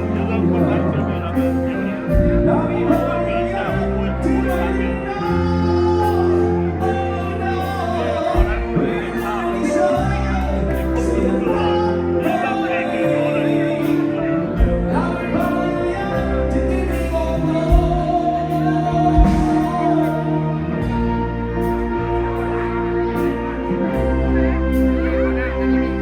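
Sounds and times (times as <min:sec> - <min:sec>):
bass notes: 0:00.0 - 0:26.0
live band music: 0:00.0 - 0:26.0
person singing: 0:00.0 - 0:26.0.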